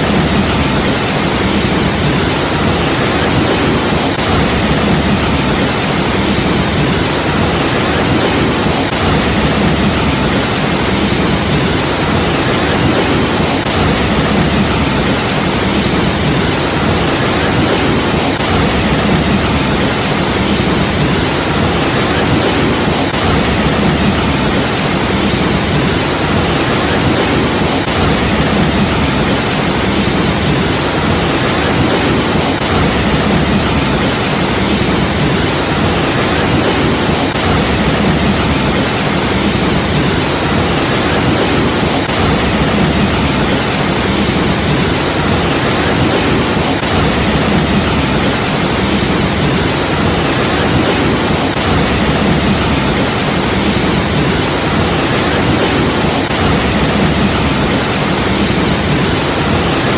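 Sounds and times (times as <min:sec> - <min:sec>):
waterfall crashing: 0:00.0 - 0:59.9.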